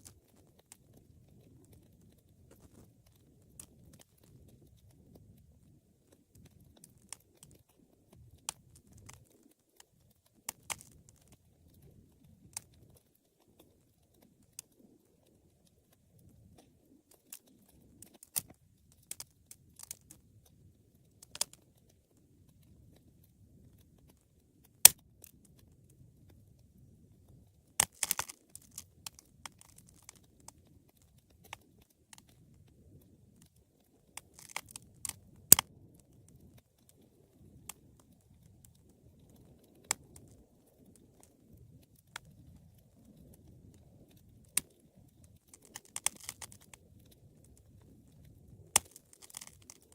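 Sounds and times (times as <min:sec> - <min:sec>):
low rumble of flames: 0:00.0 - 0:49.9
wood fire crackling: 0:00.0 - 0:49.9.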